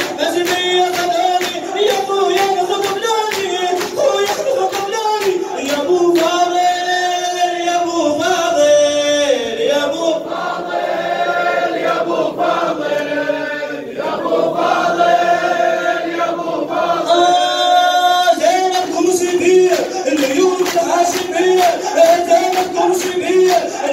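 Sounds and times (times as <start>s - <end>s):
men chanting in unison: 0.0s - 23.9s.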